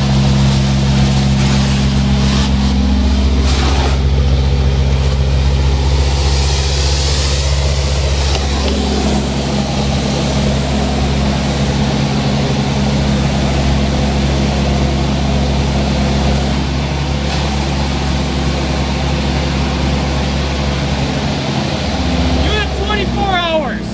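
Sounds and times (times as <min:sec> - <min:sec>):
large engine running steadily: 0:00.0 - 0:23.9.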